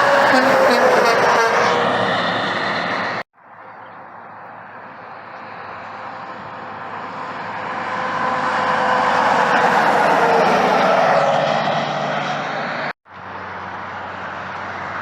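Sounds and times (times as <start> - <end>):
vehicle approaching on highway: 0.0 - 15.0.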